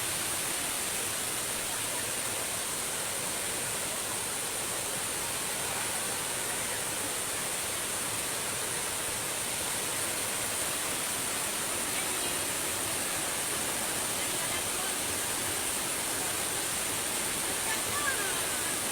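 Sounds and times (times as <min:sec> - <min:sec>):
flowing water rushing: 0:00.0 - 0:18.9.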